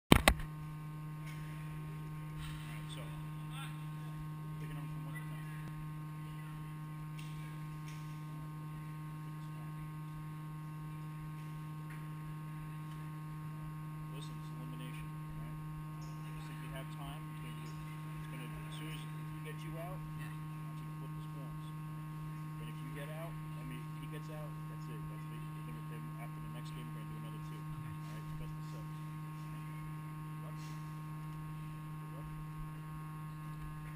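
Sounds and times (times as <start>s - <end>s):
low electrical hum: 0.1s - 33.9s.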